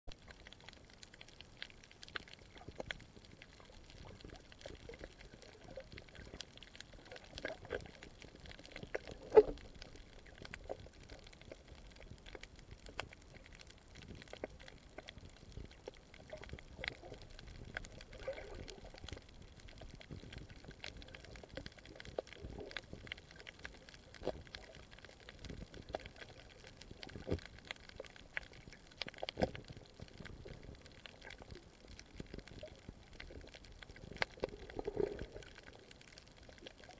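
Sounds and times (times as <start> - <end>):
small underwater clicks and crackles: 0.1 - 36.9.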